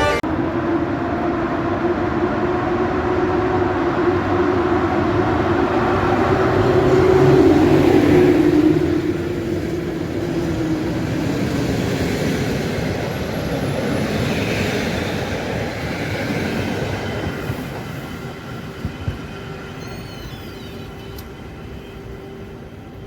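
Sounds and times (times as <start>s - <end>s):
train wheels rumbling on rails: 0.2s - 23.0s.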